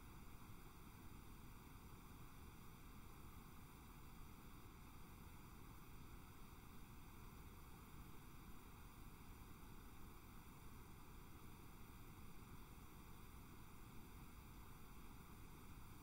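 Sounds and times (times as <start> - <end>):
faint recording hiss: 0.0 - 16.0.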